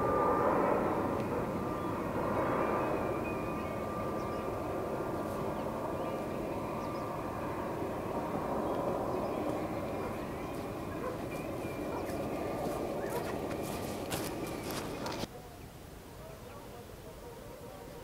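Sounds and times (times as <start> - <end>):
distant engine drone: 0.0 - 15.3.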